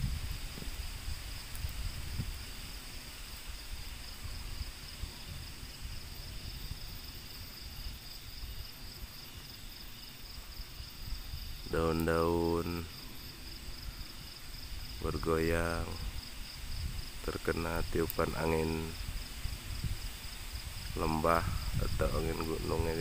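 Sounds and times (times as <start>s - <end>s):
insects droning: 0.0s - 23.0s
wind buffeting microphone: 0.0s - 23.0s.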